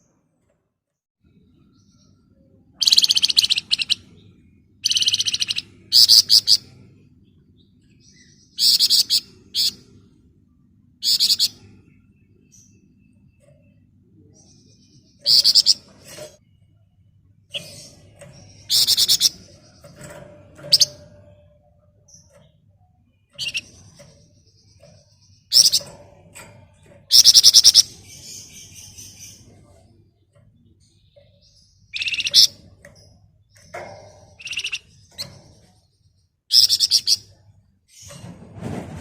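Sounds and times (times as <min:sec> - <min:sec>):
songbird buzzy trills: 0:01.6 - 0:10.0, 0:10.8 - 0:38.1.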